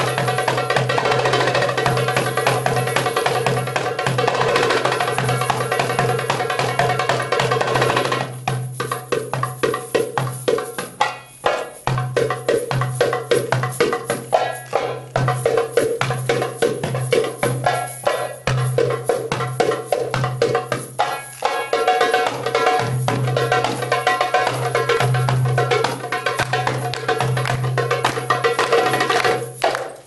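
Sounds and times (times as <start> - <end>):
frame drum with jingles: 0.0 - 30.0.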